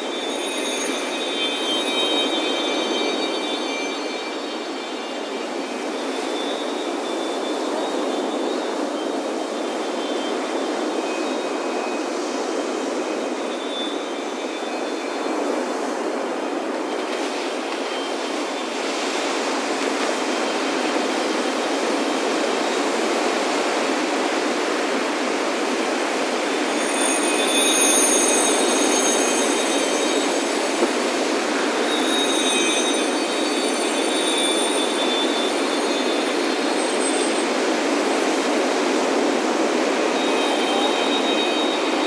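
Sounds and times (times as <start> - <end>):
metal wind chimes ringing: 0.0 - 42.0
ocean surf on a beach: 0.0 - 42.0.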